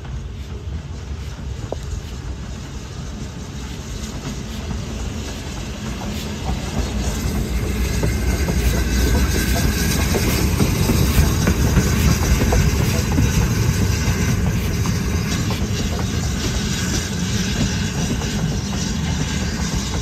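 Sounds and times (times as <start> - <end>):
steam locomotive running past: 0.0 - 20.0
wheels clattering on rails: 0.0 - 20.0.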